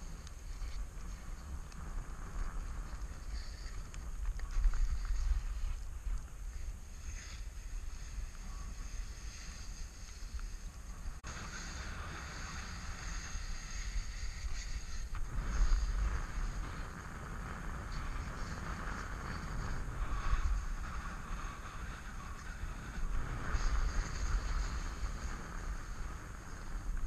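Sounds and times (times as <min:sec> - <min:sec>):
hiss of sliding over snow: 0:00.0 - 0:27.0
wind buffeting microphone: 0:00.0 - 0:27.0.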